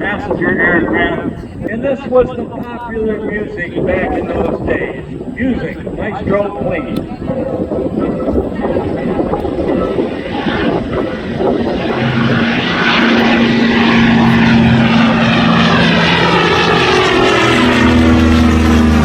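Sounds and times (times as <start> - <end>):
propeller plane droning past: 0.0 - 19.0.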